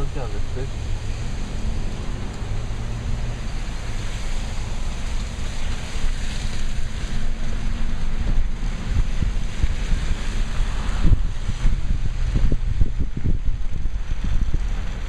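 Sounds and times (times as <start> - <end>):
wind buffeting the microphone: 0.7 - 15.0.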